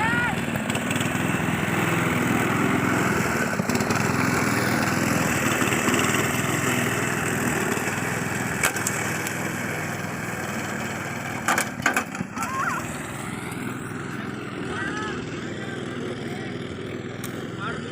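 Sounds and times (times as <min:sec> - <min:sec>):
petrol grass cutter running: 0:00.0 - 0:17.9.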